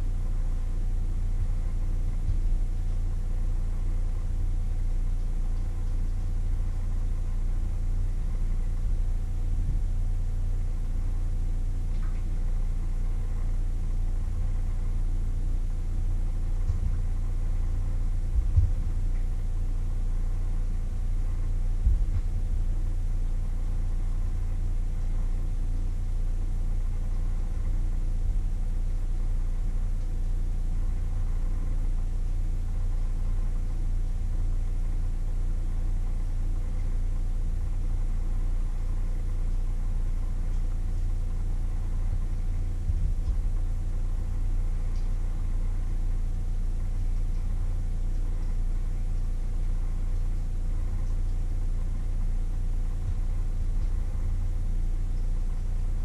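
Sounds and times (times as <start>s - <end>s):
faint steady tone: 0.0s - 56.0s
low hum: 0.0s - 56.0s.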